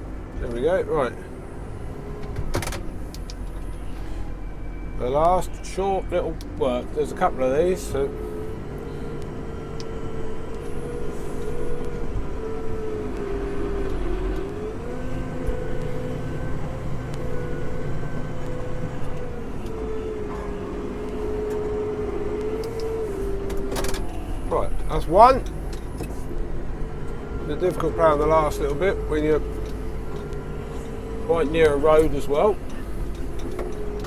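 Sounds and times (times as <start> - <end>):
continuous whining tone: 0.0 - 34.0
tractor engine under load: 0.0 - 34.0.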